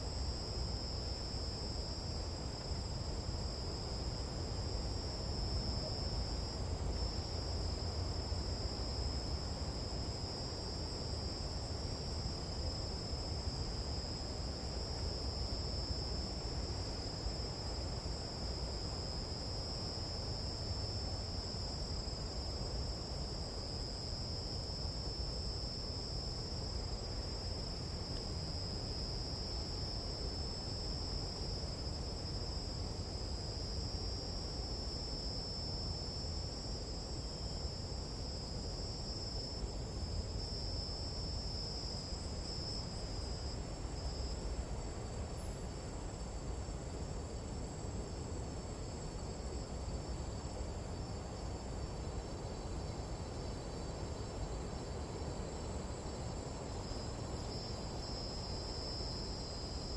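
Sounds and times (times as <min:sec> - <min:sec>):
insects trilling: 0:00.0 - 0:59.9
low background noise: 0:00.0 - 0:59.9.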